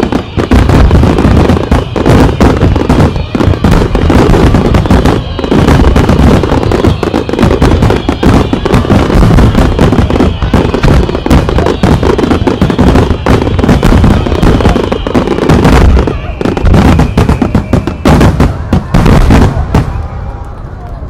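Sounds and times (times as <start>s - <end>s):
fireworks bursting booms: 0.0s - 20.6s.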